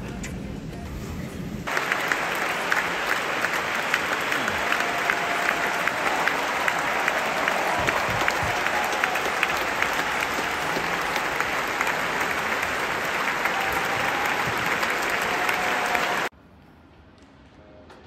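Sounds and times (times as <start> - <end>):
audience applauding: 1.7 - 16.3.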